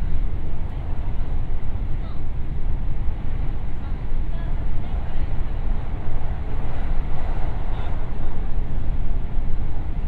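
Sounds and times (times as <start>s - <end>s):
train rumbling through tunnel: 0.0s - 10.0s.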